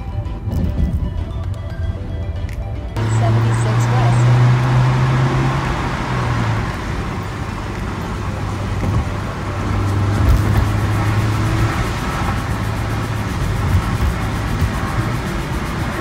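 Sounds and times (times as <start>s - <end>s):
tyre and road noise: 0.0s - 16.0s
car engine droning: 3.0s - 16.0s.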